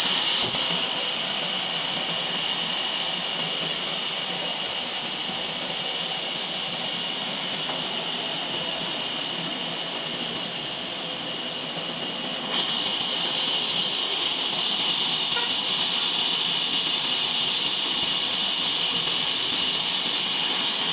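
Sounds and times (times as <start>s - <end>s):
band sawmill hissing whine: 0.0s - 20.9s.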